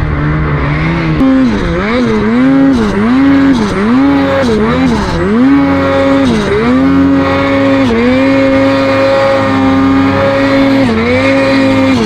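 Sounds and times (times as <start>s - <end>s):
snowmobile engine at high revs: 0.0s - 12.0s.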